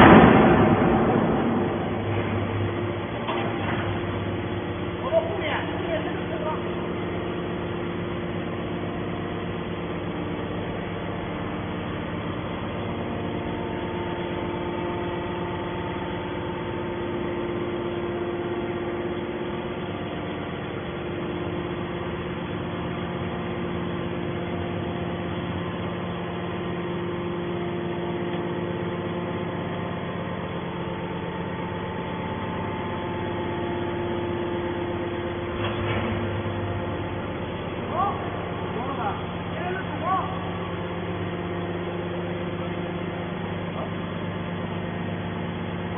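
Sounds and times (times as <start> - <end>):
heavy machinery motor drone: 0.0 - 45.9.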